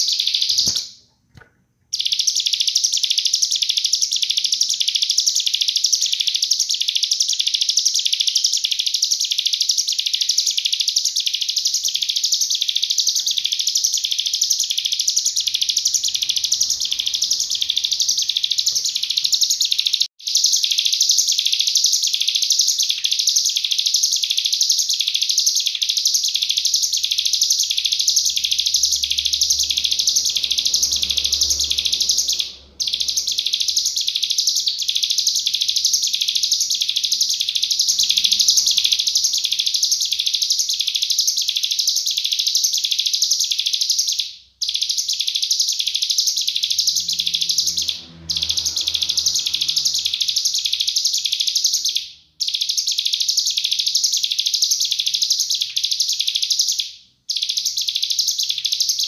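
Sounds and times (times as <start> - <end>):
bird singing high repeated notes: 0.0 - 1.0, 1.9 - 59.0.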